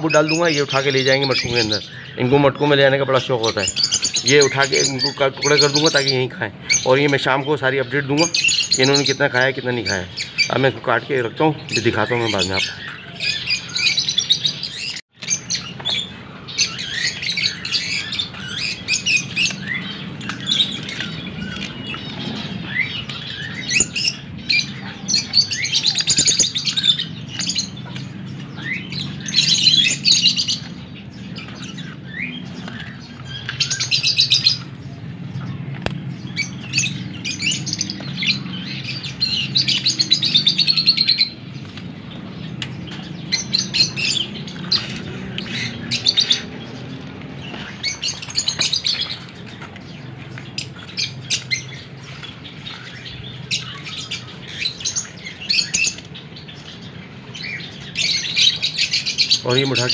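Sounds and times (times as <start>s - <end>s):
parrots chirping and chattering: 0.0s - 59.9s.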